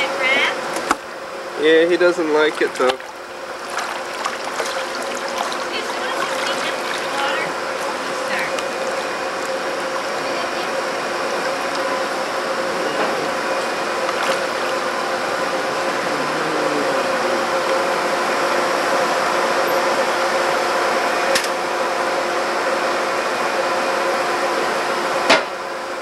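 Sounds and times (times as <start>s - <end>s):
mechanical hum with hiss: 0.0s - 26.0s.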